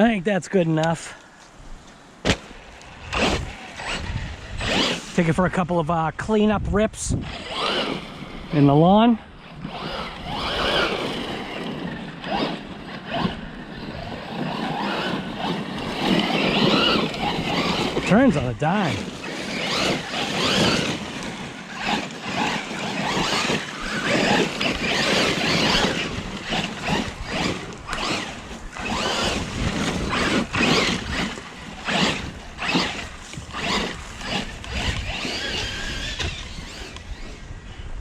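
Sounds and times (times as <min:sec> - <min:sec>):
tyres tearing through grass: 0:01.9 - 0:05.6, 0:07.3 - 0:37.4
electric motor whining: 0:02.7 - 0:05.5, 0:07.1 - 0:37.8.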